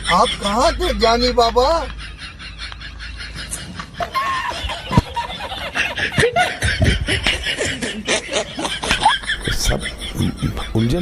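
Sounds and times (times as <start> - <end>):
person laughing: 1.7 - 11.0.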